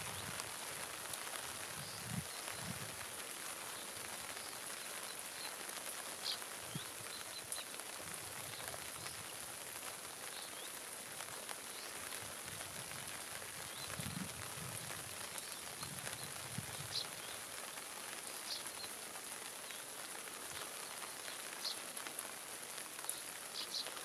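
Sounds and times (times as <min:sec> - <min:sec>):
rain hissing on grass: 0:00.0 - 0:24.0.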